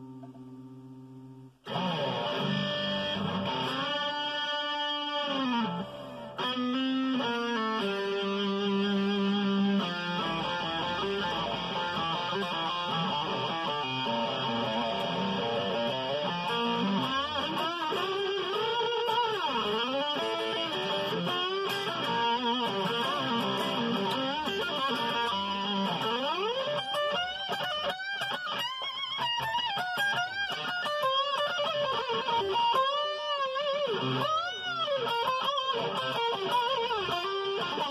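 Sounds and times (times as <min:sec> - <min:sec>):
electric guitar solo: 0:00.0 - 0:37.9.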